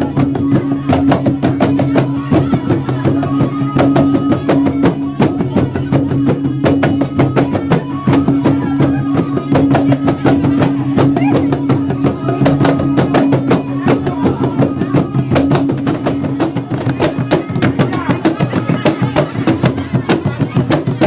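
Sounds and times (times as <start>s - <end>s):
fast drumming: 0.0s - 21.0s.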